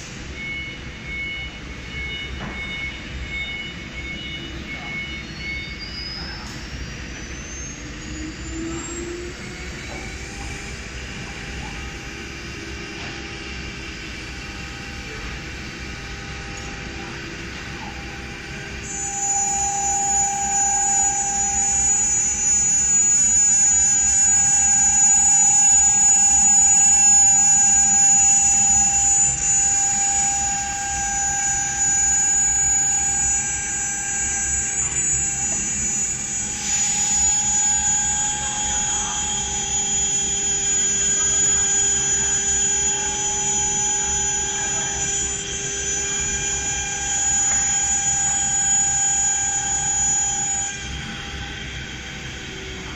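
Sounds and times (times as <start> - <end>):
cnc router whining: 0.0 - 52.9.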